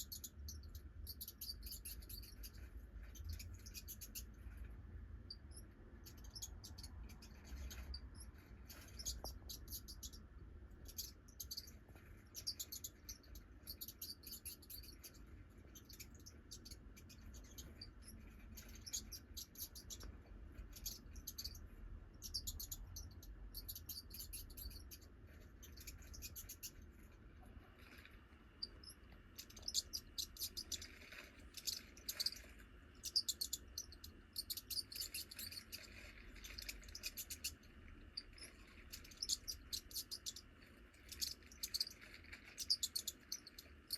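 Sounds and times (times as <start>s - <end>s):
high-pitched chirps and squeaks: 0.0s - 43.9s.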